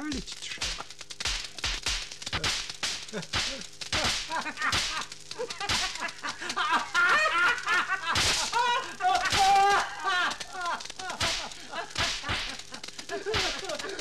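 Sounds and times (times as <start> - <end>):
electric sparks cracking: 0.0 - 14.0.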